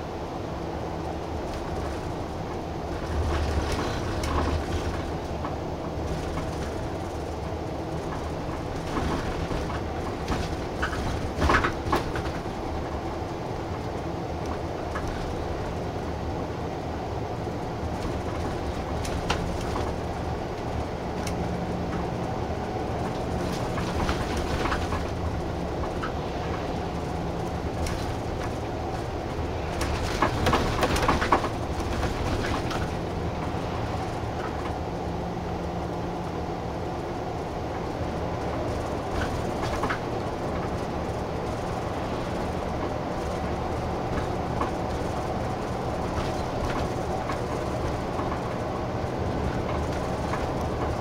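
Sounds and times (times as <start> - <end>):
bus engine and road hum: 0.0 - 51.0
bus interior rattling: 0.0 - 51.0.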